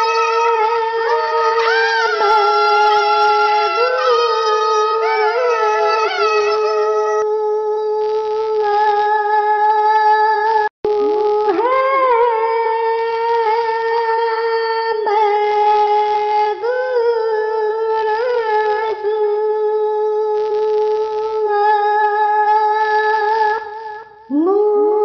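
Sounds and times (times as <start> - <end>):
person singing long held notes: 0.0 - 25.0.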